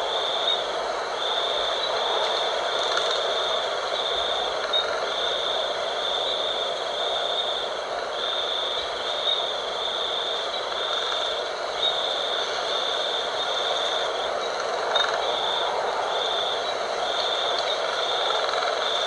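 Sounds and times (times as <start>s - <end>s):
night wind blowing: 0.0s - 19.0s.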